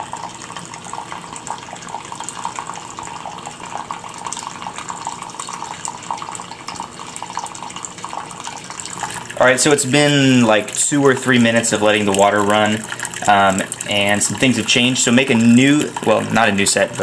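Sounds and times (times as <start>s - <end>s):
water splashing and trickling: 0.0s - 17.0s.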